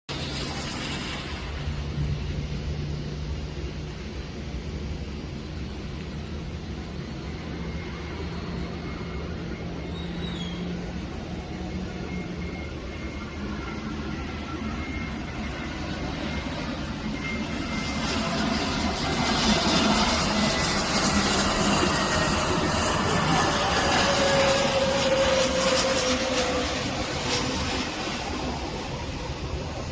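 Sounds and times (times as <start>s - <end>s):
airplane engine: 0.0s - 29.9s.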